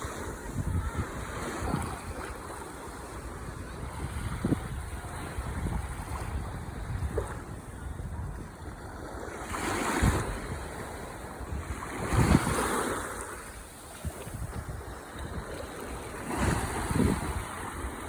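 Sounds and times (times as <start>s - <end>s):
ocean waves washing ashore: 0.0s - 18.0s.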